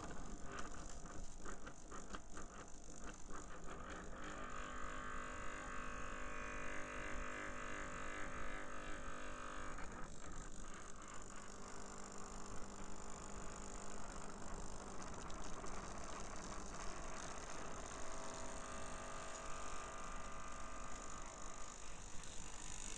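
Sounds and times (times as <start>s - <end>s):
oscillator engine buzzing hum: 4.3s - 22.9s.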